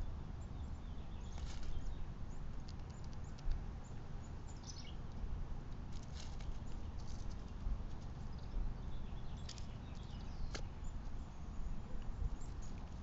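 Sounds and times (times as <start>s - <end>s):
small birds chirping: 0.0s - 5.2s, 5.8s - 13.0s.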